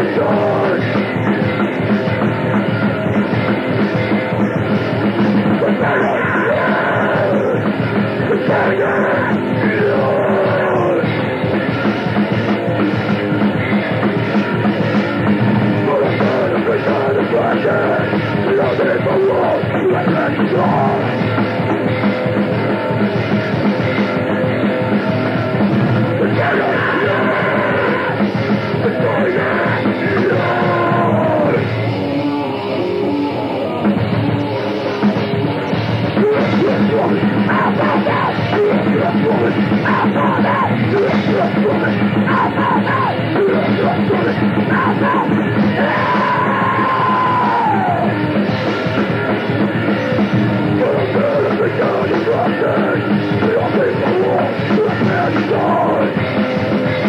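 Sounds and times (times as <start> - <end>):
yelled vocals: 0.0 - 24.5, 25.1 - 57.0
pounding drums: 0.0 - 32.2, 33.8 - 57.0
distorted guitars: 0.0 - 57.0.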